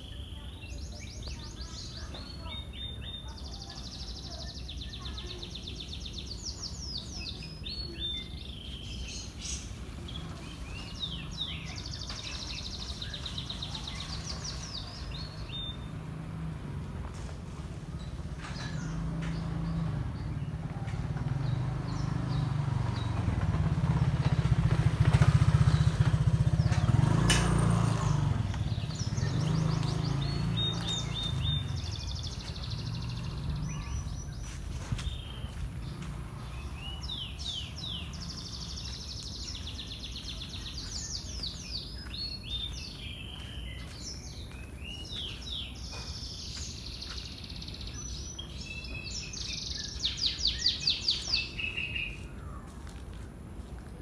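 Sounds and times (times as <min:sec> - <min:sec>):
birds chirping: 0:00.0 - 0:54.0
vehicle engine rumble passing: 0:05.4 - 0:54.0.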